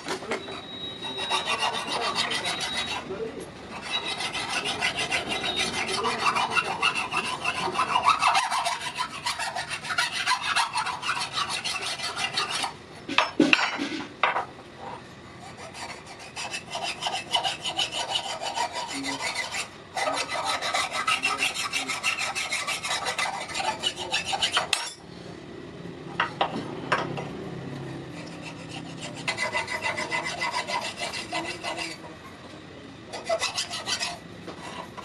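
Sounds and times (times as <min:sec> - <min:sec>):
file rasping on steel: 0:00.0 - 0:12.8, 0:15.4 - 0:25.0, 0:27.9 - 0:32.2, 0:33.1 - 0:35.0.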